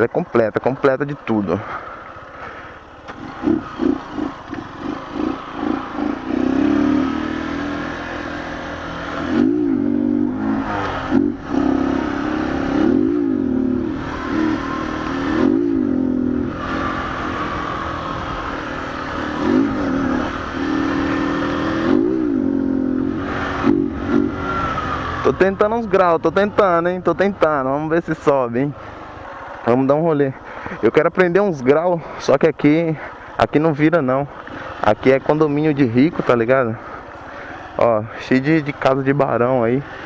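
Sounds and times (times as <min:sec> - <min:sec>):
motorcycle engine revving: 0:01.6 - 0:31.4, 0:32.6 - 0:40.0.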